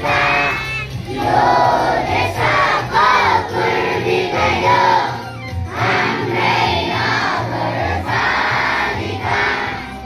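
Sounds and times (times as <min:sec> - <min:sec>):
children singing in unison: 0:00.0 - 0:10.0.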